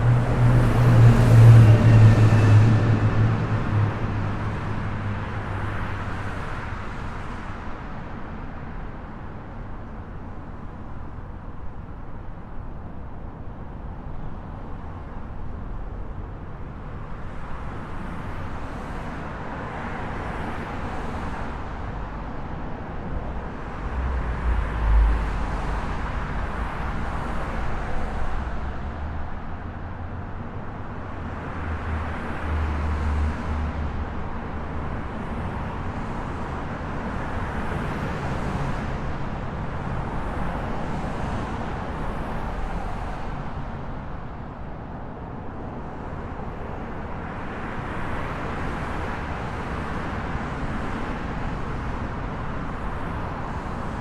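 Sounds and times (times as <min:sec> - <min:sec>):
highway traffic passing: 0:00.0 - 0:08.7, 0:15.5 - 0:54.0.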